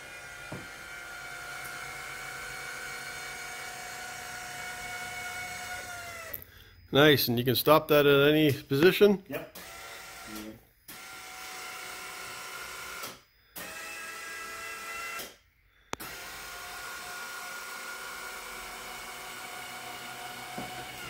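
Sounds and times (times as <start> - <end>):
electric motor whirring: 0.0 - 6.4, 9.4 - 15.4, 16.0 - 21.0.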